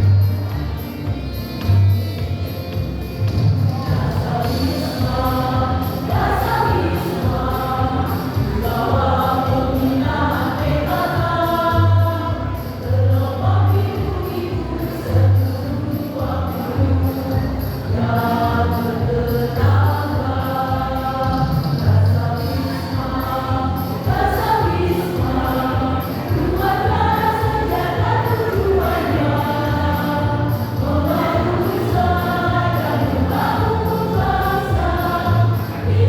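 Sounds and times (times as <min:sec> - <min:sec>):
instrumental backing with steady beat: 0:00.0 - 0:36.0
women's choir singing: 0:03.8 - 0:36.0.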